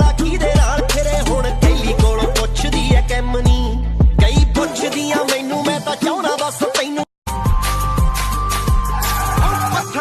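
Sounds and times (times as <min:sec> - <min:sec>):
song with heavy bass beat: 0:00.0 - 0:09.8.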